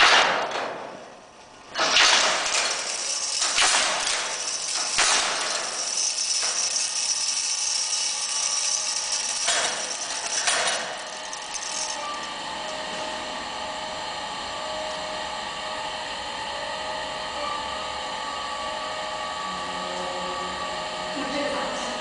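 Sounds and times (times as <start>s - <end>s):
riveting machine humming: 1.4s - 22.0s.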